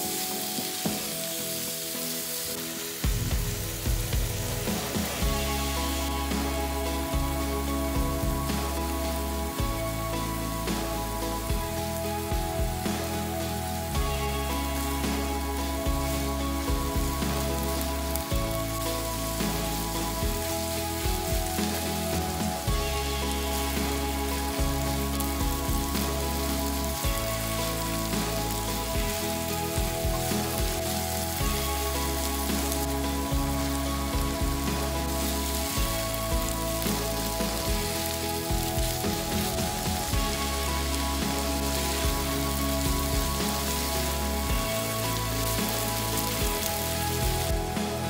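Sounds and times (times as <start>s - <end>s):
background music with held chords: 0.0s - 48.0s
meat and vegetables sizzling: 0.0s - 48.0s.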